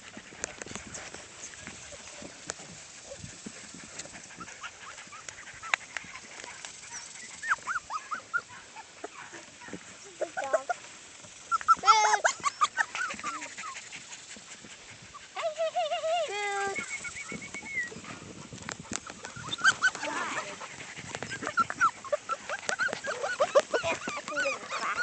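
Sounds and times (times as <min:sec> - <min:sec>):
puppies whining and squealing: 0:00.9 - 0:25.0.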